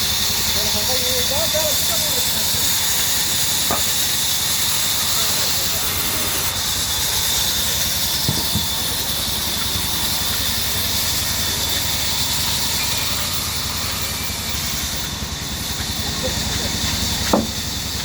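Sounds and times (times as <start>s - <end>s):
band saw running: 0.0s - 18.0s.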